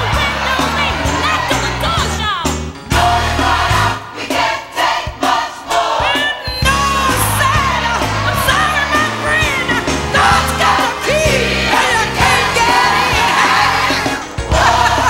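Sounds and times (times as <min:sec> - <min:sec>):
gospel choir singing: 0:00.0 - 0:02.2, 0:02.8 - 0:15.0
bass line and beat: 0:00.0 - 0:04.0, 0:06.6 - 0:15.0.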